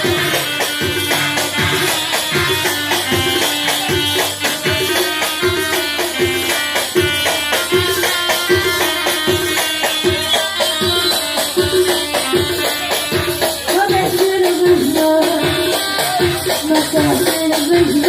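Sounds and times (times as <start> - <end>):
shaken hand percussion: 0.0 - 18.0
steady drum beat: 0.0 - 18.0
sustained melody line: 0.0 - 18.0.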